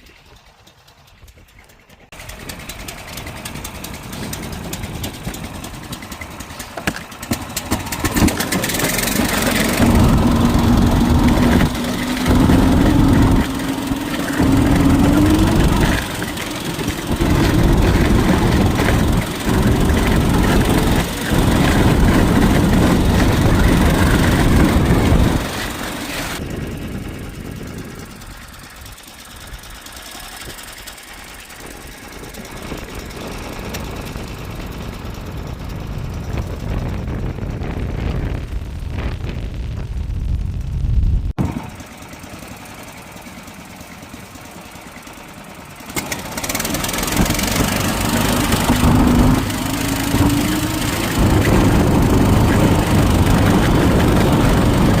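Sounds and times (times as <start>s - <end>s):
small engine revving: 1.4s - 39.9s, 41.4s - 55.0s.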